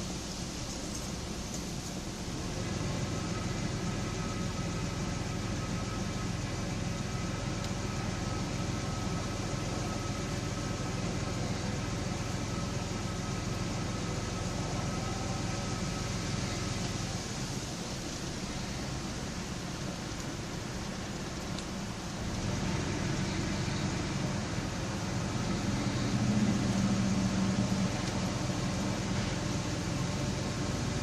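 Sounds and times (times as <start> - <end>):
engine idling with a misfire: 0.0 - 31.0.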